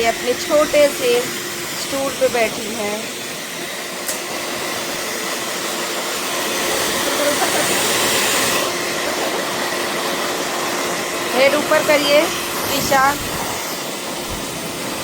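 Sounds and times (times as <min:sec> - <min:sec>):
blow dryer running: 0:00.0 - 0:15.0.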